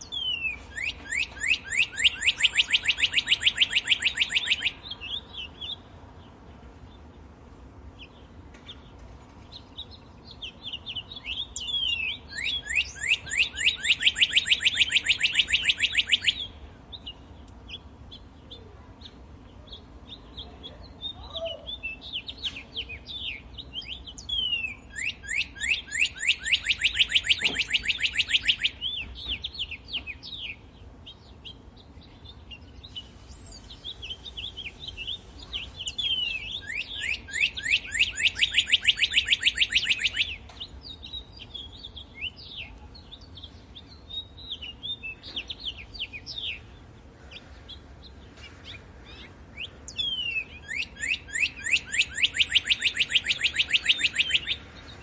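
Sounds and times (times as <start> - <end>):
songbird trilling song: 0.0 - 55.0.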